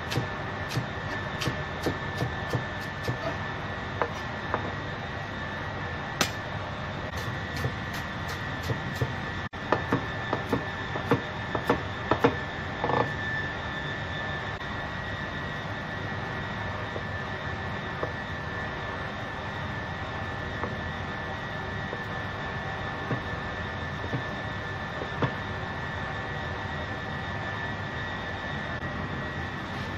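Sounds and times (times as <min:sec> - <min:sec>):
steady hum with high whine: 0:00.0 - 0:29.9.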